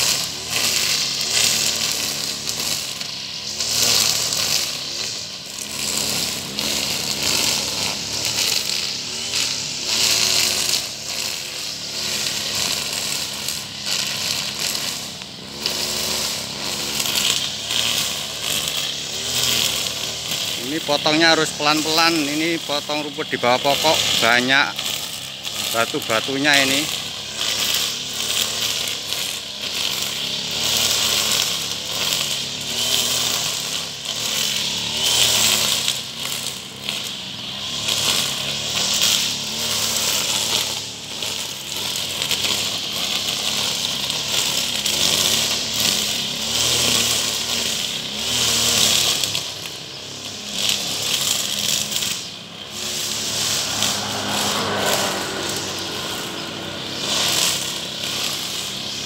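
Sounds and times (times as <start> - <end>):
brush cutter engine running: 0.0 - 59.0
cutting head sweeping through grass: 0.0 - 59.0.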